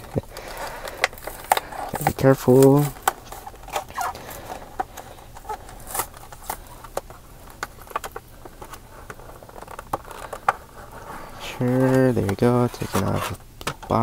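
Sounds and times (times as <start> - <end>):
plastic blister pack crackling: 0.0 - 14.0.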